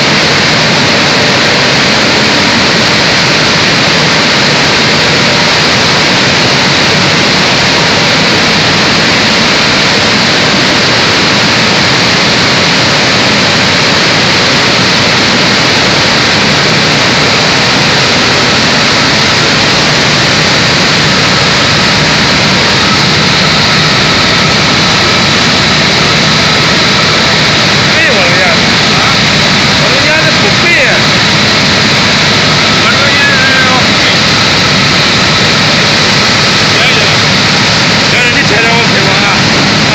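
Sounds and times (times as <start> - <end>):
high-pitched machine whine: 0.0 - 39.9
machinery running: 0.0 - 39.9.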